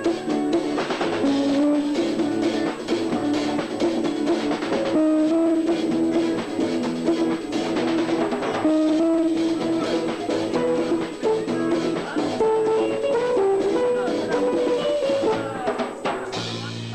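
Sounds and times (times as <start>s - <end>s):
lead melody of held notes: 0.0s - 15.8s
drum kit: 0.0s - 16.9s
guitar: 0.0s - 16.9s.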